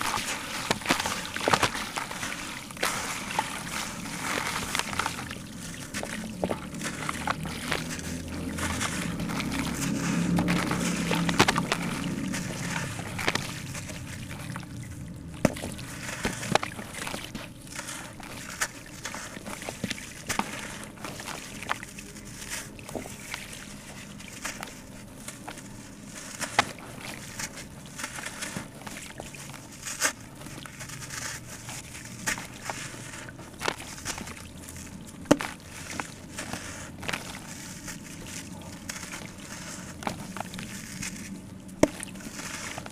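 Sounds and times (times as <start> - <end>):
grit dropping into water: 0.0 - 42.9.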